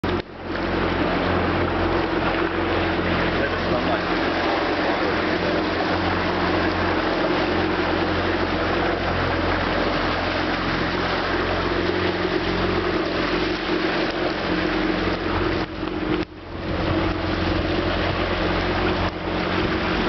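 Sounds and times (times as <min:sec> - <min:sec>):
boat engine running: 0:00.0 - 0:20.0
rush of wind and water: 0:00.0 - 0:20.0.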